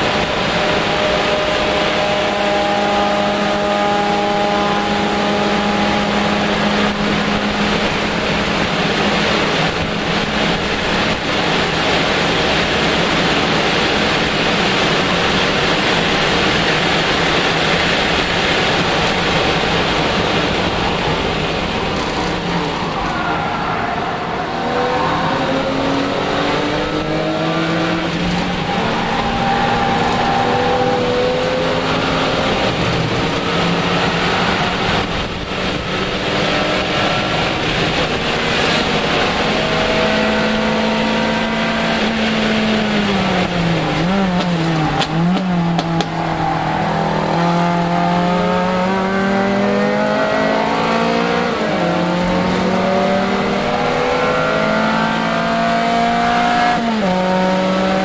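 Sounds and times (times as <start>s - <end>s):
car engine at speed: 0.0s - 58.0s
wind and road noise: 0.0s - 58.0s.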